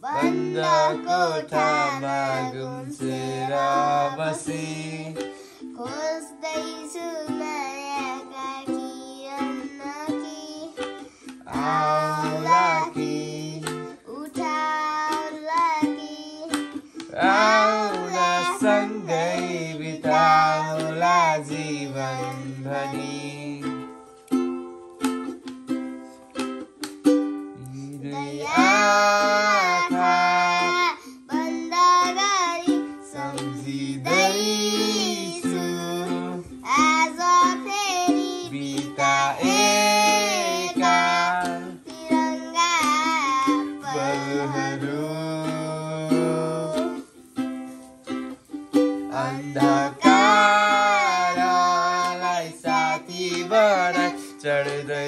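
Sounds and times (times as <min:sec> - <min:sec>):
man and child singing: 0:00.0 - 0:24.0, 0:27.6 - 0:47.2, 0:48.8 - 0:55.0
ukulele strumming: 0:00.0 - 0:55.0.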